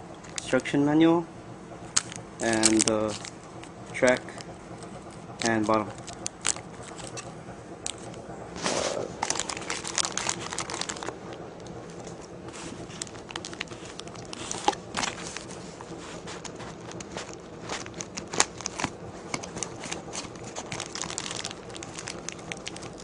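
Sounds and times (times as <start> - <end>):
plastic packaging crinkling: 1.9 - 7.3, 7.9 - 23.0.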